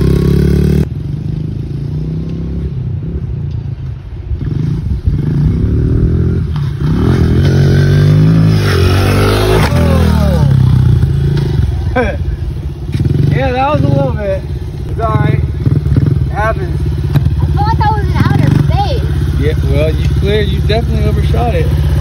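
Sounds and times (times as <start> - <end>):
motorbike engine revving: 0.0 - 3.3, 4.4 - 22.0.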